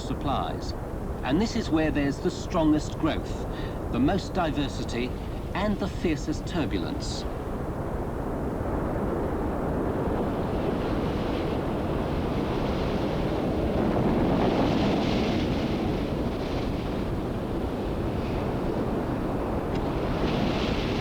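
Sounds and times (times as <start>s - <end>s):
ocean surf breaking: 0.0s - 7.8s, 8.7s - 21.0s.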